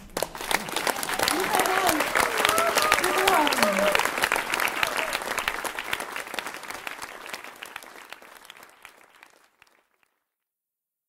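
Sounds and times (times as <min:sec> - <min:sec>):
audience applause: 0:00.0 - 0:10.2.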